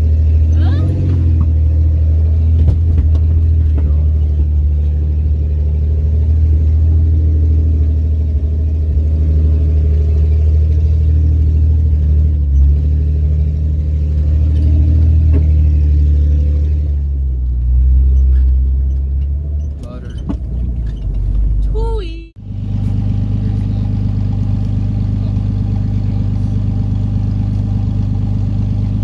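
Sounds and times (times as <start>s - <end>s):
car engine running at low speed: 0.0s - 29.0s.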